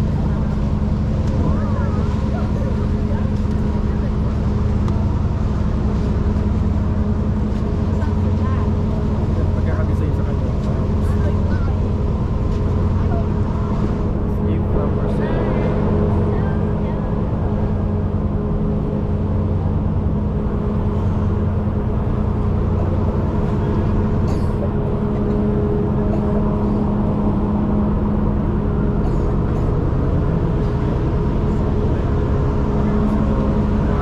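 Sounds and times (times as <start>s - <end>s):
ferry engines humming: 0.0s - 34.0s.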